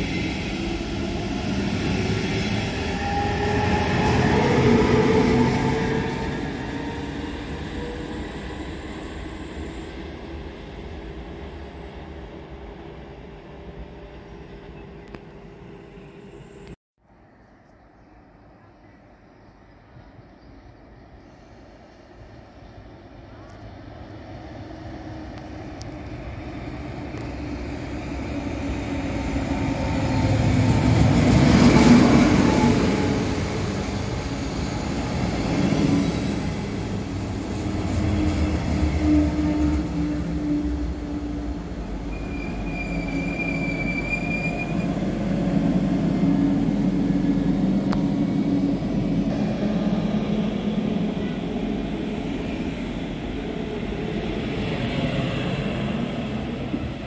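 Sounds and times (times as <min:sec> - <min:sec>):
train passing rumble: 0:00.0 - 0:16.8, 0:17.9 - 0:57.0.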